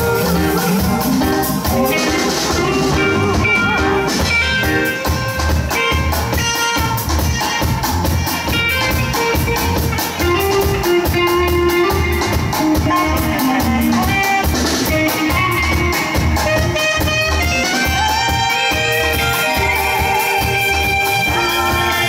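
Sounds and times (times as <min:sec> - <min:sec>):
drum kit beat: 0:00.0 - 0:22.0
electric guitar: 0:00.0 - 0:22.0
saxophone lead: 0:00.0 - 0:22.0.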